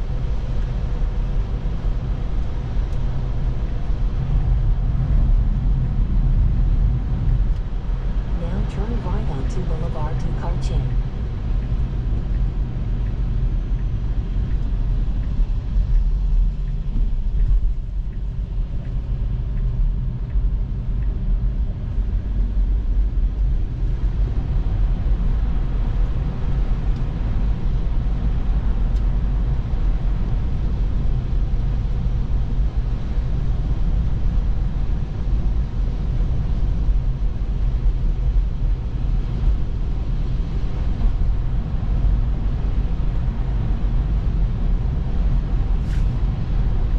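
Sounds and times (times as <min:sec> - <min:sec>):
road and tyre rumble inside car: 0:00.0 - 0:46.9.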